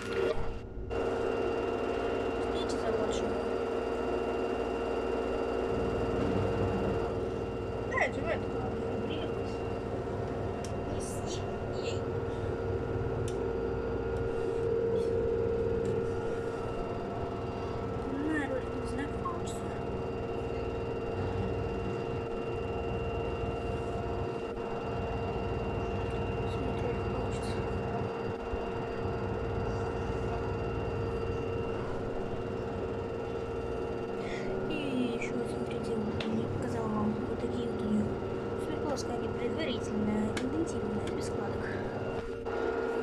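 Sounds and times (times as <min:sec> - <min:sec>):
washing machine motor whine: 0:00.0 - 0:43.0.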